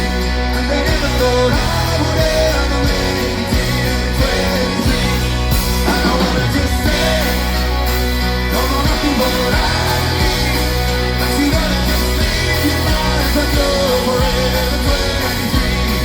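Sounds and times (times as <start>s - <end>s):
drums beating: 0.0s - 16.0s
man singing: 0.0s - 16.0s
pop rock band playing: 0.0s - 16.0s.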